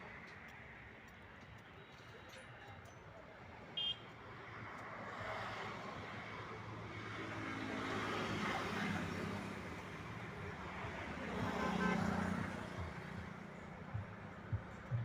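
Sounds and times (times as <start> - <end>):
road traffic hum: 0.0 - 15.0
vehicles passing: 0.0 - 15.0.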